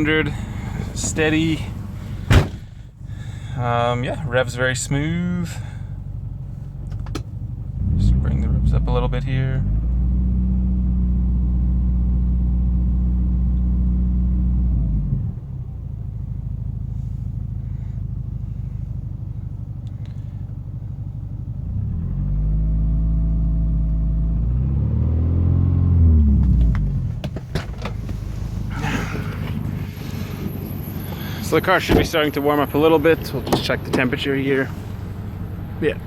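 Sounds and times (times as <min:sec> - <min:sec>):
car engine revving and idling: 0:00.0 - 0:36.0.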